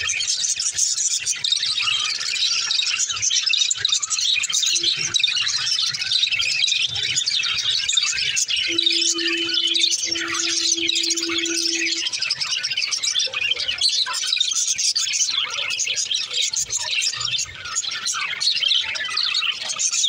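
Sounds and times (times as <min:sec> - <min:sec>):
budgerigars chirping and warbling: 0:00.1 - 0:20.0.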